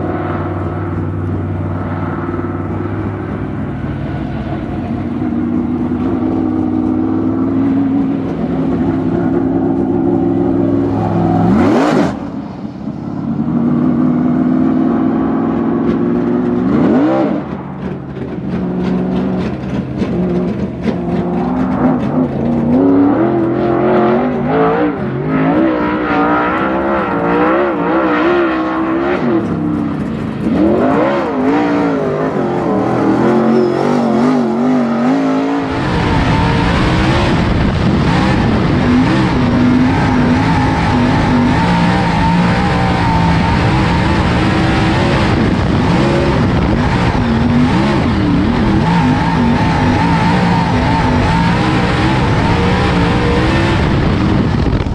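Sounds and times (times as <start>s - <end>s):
race car engine revving: 0.0s - 54.9s.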